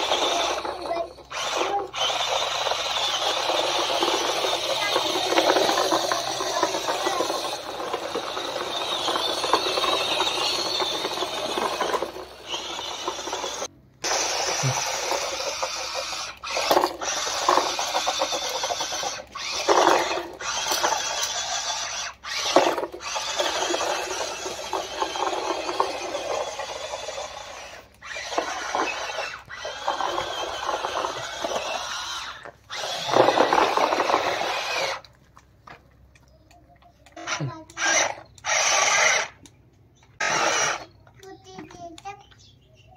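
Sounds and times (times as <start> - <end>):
toy car motors whirring: 0.0 - 35.8, 36.4 - 42.5.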